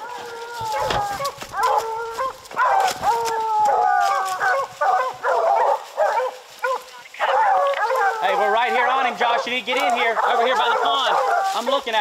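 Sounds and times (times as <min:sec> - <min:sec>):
hounds baying and barking: 0:00.0 - 0:12.0.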